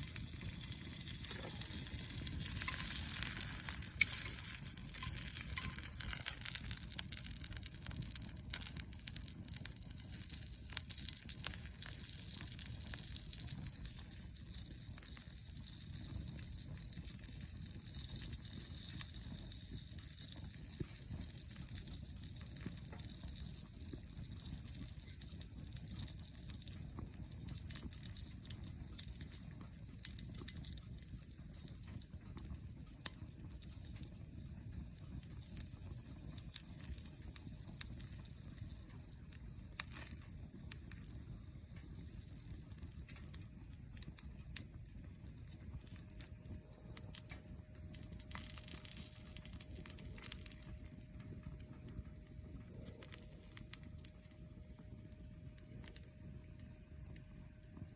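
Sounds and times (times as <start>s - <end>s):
campfire crackling: 0.0s - 57.9s
high insect trill: 0.0s - 57.9s.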